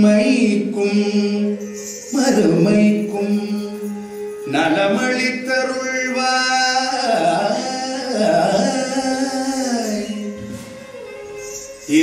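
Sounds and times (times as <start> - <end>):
musical accompaniment: 0.0 - 12.0
person singing sliding notes: 0.0 - 12.0.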